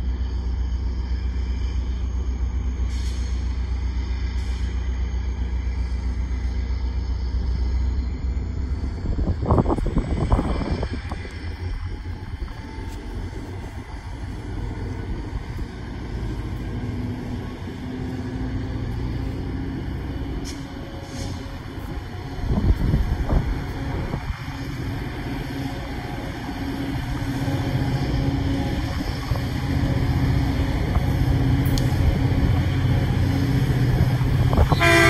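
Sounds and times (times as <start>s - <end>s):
diesel locomotive engine rumble: 0.0s - 35.0s.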